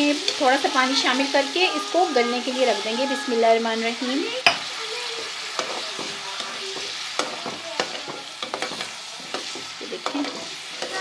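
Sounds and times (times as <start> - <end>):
potatoes sizzling in hot oil: 0.0 - 11.0
spoon scraping a pan: 0.0 - 11.0.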